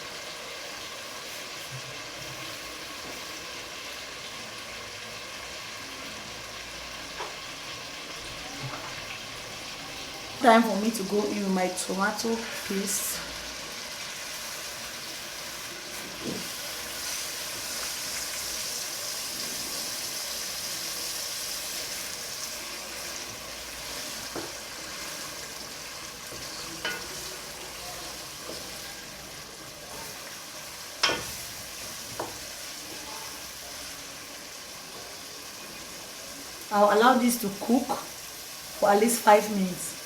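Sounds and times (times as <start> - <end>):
oil sizzling in a pot: 0.0 - 40.0.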